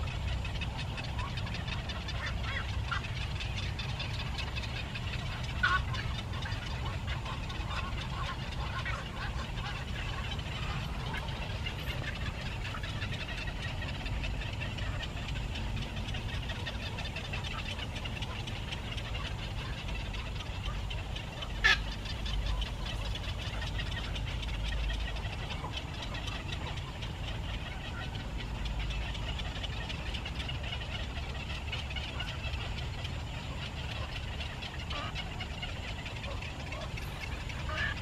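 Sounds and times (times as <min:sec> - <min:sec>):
small birds chirping: 0:00.0 - 0:38.0
steady low rumble: 0:00.0 - 0:38.0.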